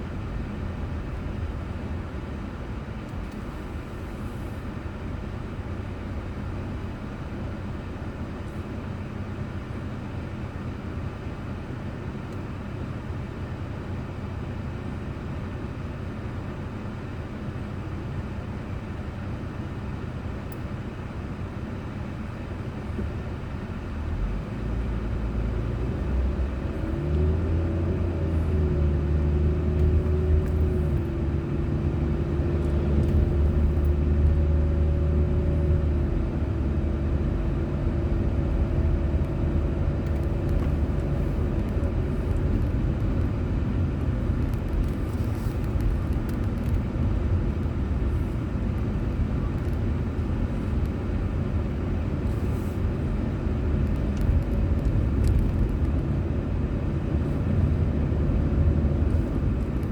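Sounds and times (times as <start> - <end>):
deep engine hum: 0.0 - 59.9
road and engine noise: 0.0 - 59.9.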